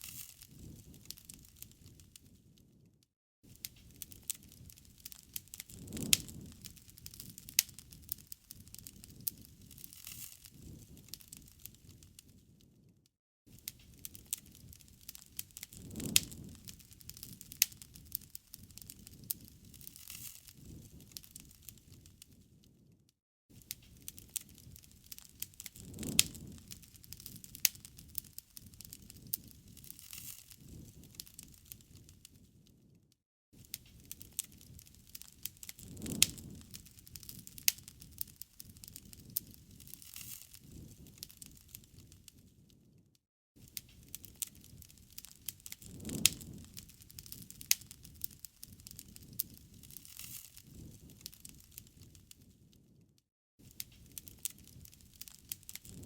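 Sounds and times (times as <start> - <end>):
loud fire pops: 0.0 - 2.1, 3.5 - 12.4, 13.5 - 22.5, 23.5 - 32.4, 33.6 - 42.3, 43.6 - 52.2, 53.6 - 56.0
campfire crackling: 0.0 - 2.8, 3.5 - 12.6, 13.5 - 22.8, 23.5 - 32.8, 33.6 - 42.8, 43.6 - 52.8, 53.6 - 56.0
low rumble of flames: 0.1 - 33.0, 33.6 - 43.0, 43.6 - 56.0.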